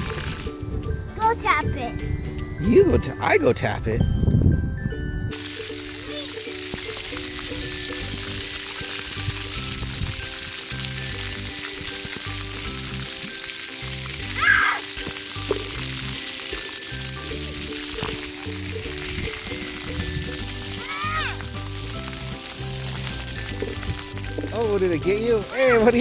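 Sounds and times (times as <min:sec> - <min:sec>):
water jets spraying: 0:00.0 - 0:01.4, 0:05.3 - 0:26.0
background music: 0:00.0 - 0:26.0.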